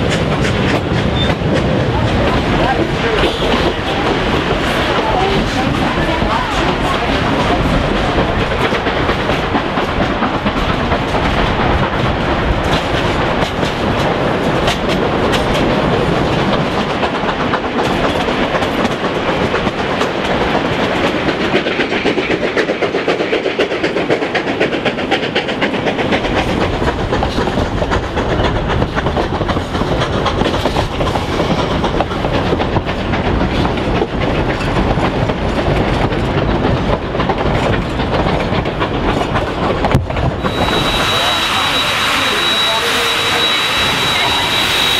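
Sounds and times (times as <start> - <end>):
train rolling on rails: 0.0 - 44.9
wheels clacking over rail joints: 0.0 - 44.9.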